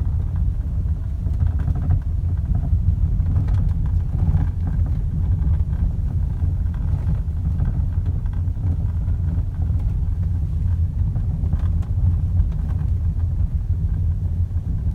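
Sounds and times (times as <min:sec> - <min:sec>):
car low rumble: 0:00.0 - 0:14.9.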